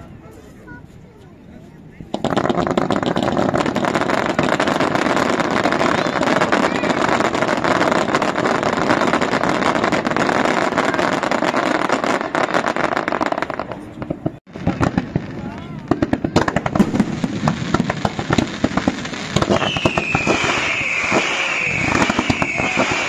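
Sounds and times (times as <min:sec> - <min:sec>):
fireworks crackling: 0:01.8 - 0:23.0.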